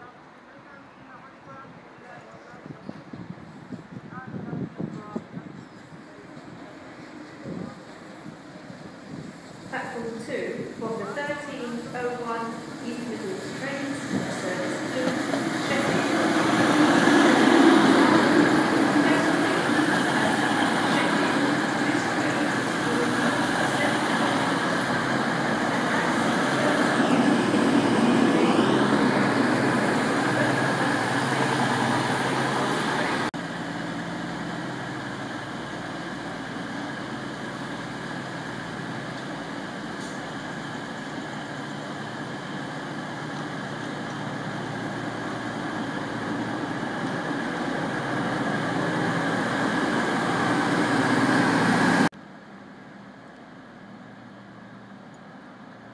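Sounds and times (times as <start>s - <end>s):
diesel train passing: 0.0s - 55.9s
train whine: 0.0s - 55.9s
diesel engine humming: 6.2s - 52.1s.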